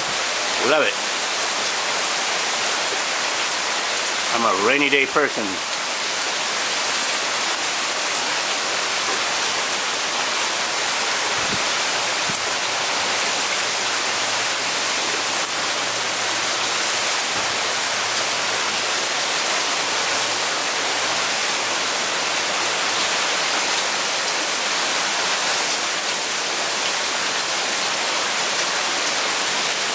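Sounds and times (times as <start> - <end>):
heavy rain hissing: 0.0 - 29.9.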